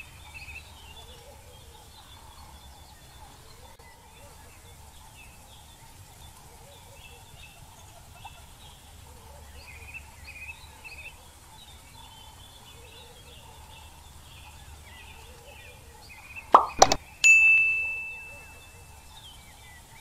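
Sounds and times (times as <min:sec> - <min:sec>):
birds chirping faintly: 0:00.0 - 0:20.0
low outdoor hiss: 0:00.0 - 0:20.0.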